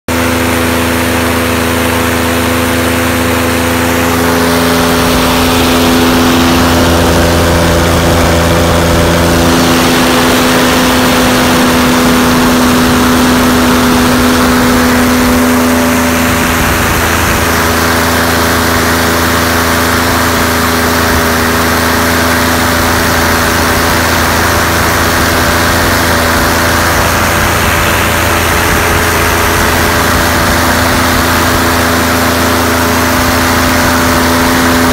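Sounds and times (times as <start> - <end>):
aircraft engine loud drone: 0.1 - 34.9.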